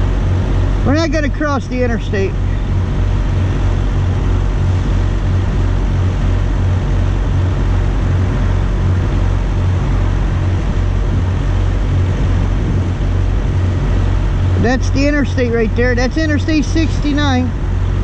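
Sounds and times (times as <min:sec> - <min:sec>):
road traffic hiss: 0:00.0 - 0:18.0
wind buffeting microphone: 0:00.0 - 0:18.0.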